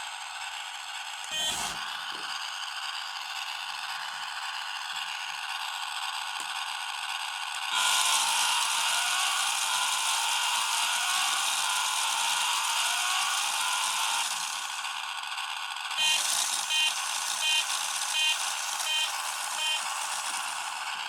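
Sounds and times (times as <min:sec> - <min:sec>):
toy car motor whirring: 0:00.0 - 0:21.0.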